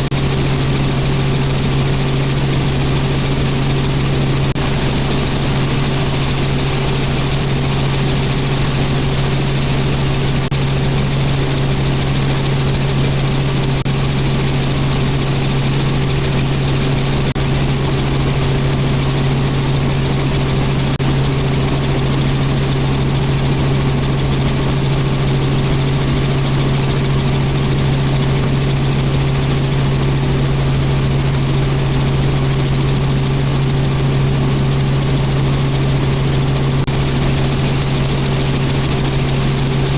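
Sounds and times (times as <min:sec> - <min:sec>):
helicopter engine and rotors drone: 0:00.0 - 0:39.9.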